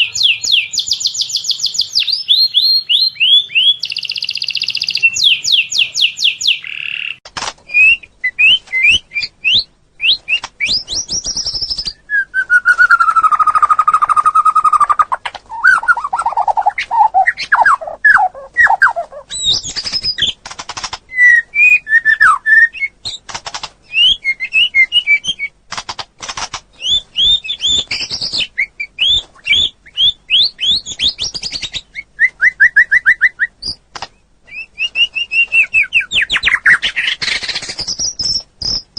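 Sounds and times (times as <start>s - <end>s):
songbird singing: 0.0s - 20.4s, 26.7s - 38.9s.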